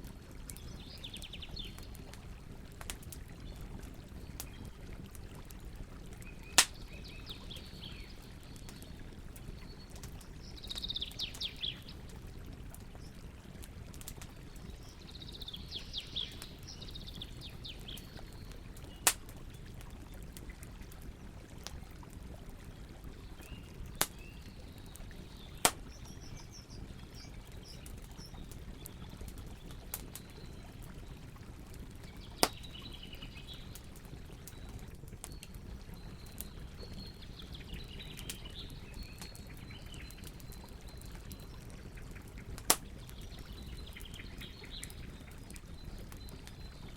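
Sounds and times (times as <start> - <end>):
campfire rumbling: 0.0 - 46.9
small birds chirping: 0.1 - 2.2, 2.8 - 12.2, 12.9 - 21.3, 22.7 - 31.2, 32.0 - 46.9
campfire pops: 0.3 - 15.4, 17.4 - 22.1, 23.1 - 30.4, 32.0 - 37.1, 38.0 - 46.8.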